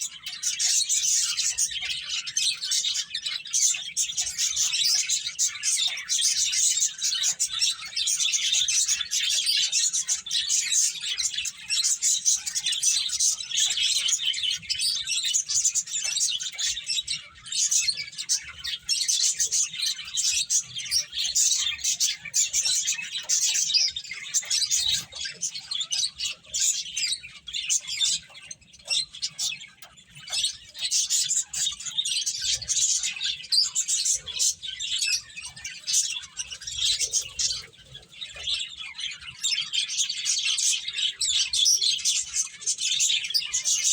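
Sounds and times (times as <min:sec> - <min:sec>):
finches chirping: 0:00.0 - 0:43.9.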